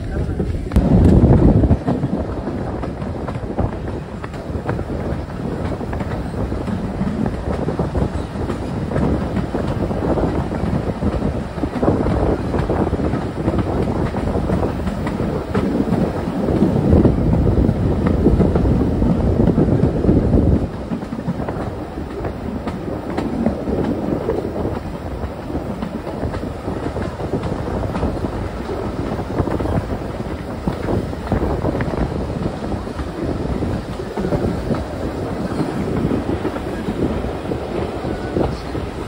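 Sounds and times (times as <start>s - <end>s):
rail clicks: 0.0s - 39.0s
train wheels rumbling on rails: 0.0s - 39.0s.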